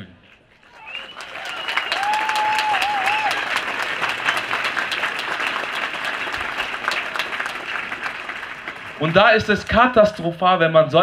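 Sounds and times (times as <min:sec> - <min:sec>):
crowd applauding: 0:00.5 - 0:10.2.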